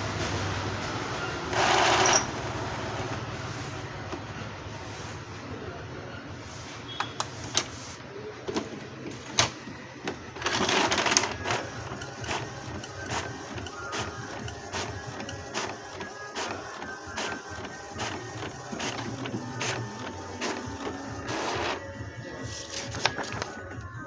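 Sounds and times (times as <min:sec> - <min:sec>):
faint motor whine: 0:00.0 - 0:24.0
printer rushing burst: 0:00.0 - 0:24.0
printer carriage clicking: 0:01.5 - 0:05.3, 0:06.5 - 0:24.0.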